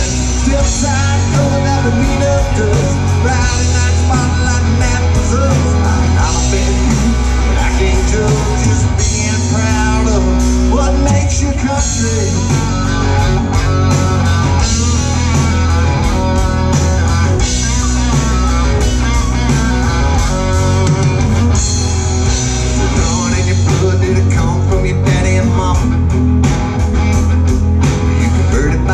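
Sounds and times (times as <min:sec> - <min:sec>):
live country-rock band playing: 0:00.0 - 0:28.9.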